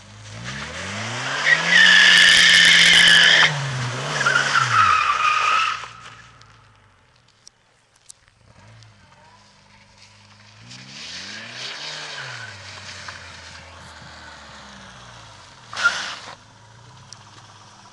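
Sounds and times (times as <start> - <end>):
car engine revving: 0.0 - 6.7, 8.4 - 17.9.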